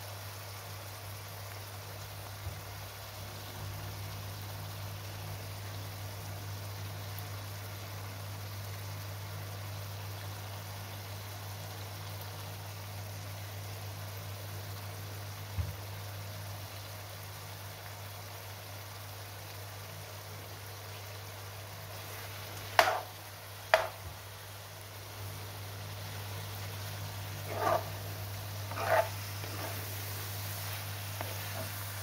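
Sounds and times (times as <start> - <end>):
food sizzling and bubbling in pan: 0.0 - 32.0.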